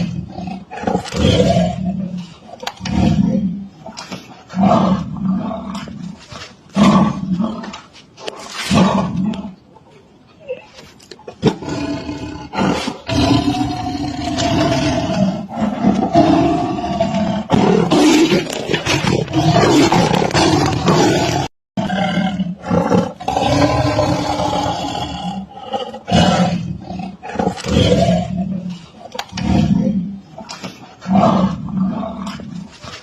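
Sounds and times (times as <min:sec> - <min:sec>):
big cat roaring: 0:00.0 - 0:07.8, 0:11.4 - 0:32.7.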